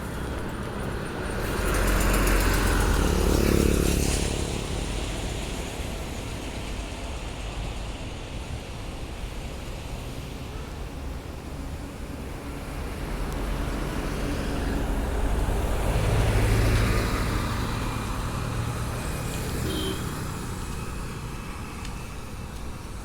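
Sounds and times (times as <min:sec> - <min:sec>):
bus engine drone: 0:00.0 - 0:23.0
road noise: 0:00.0 - 0:23.0.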